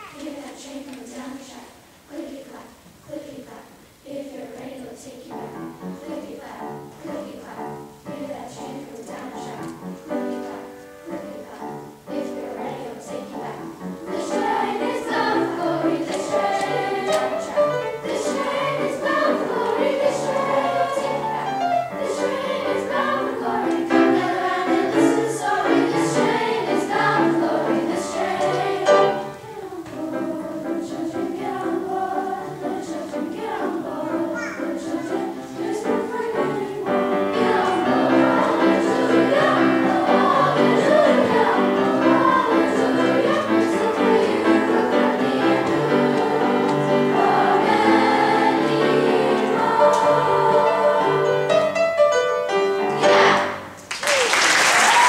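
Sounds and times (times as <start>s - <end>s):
choir singing: 0.0s - 52.0s, 52.6s - 53.8s
piano accompaniment: 5.3s - 53.8s.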